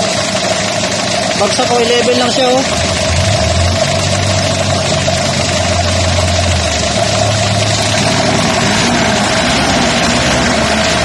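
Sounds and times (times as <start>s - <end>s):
car engine idling with whine: 0.0s - 11.0s.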